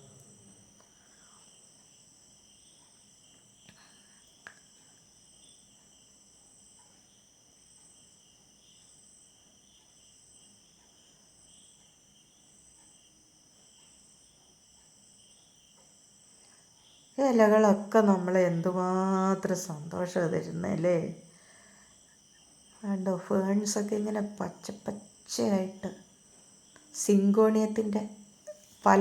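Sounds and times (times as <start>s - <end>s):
insect chorus trilling: 0.0s - 29.0s.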